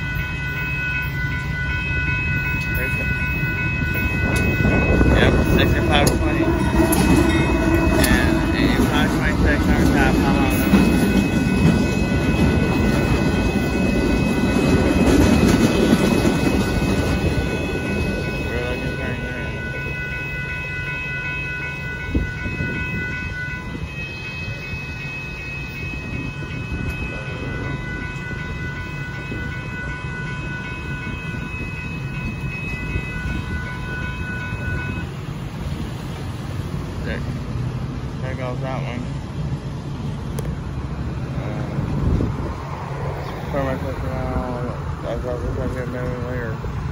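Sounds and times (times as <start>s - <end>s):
crossing warning bell ringing: 0.0s - 46.9s
train rumbling over crossing: 0.0s - 46.9s.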